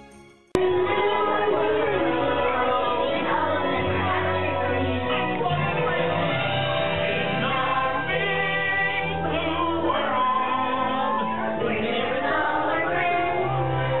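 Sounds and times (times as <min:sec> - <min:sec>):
song with several voices: 0:00.6 - 0:14.0.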